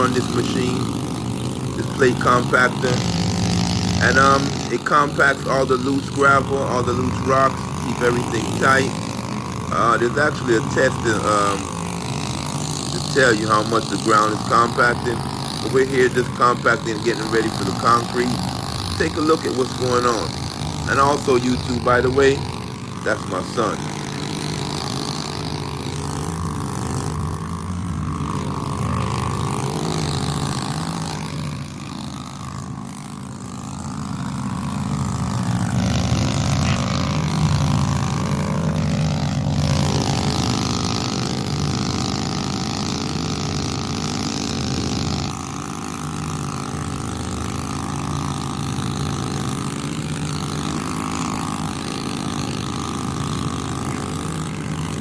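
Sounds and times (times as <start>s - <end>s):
plate compactor engine humming: 0.0s - 55.0s.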